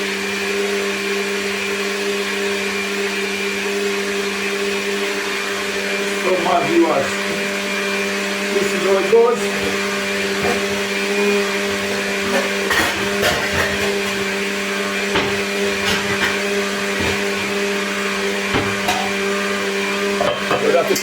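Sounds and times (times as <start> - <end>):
blender motor hum: 0.0 - 21.0.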